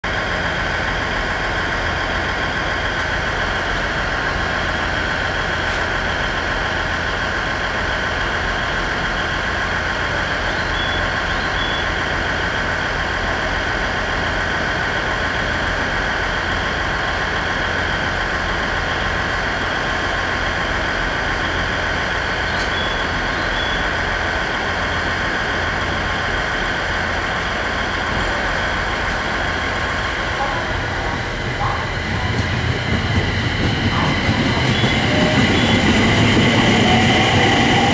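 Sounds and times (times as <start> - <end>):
train equipment low hum: 0.0 - 37.9.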